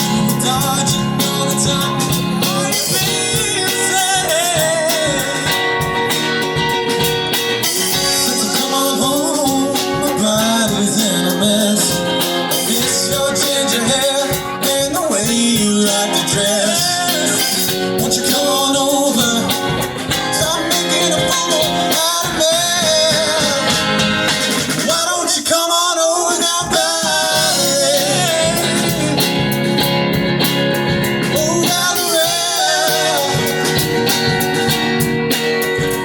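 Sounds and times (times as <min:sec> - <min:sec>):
song with singing over guitar: 0:00.0 - 0:36.0.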